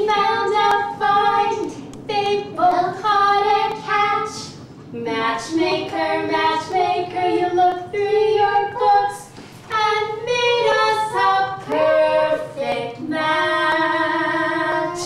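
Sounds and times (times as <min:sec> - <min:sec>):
girl singing: 0:00.0 - 0:15.0
woman singing: 0:00.0 - 0:15.0.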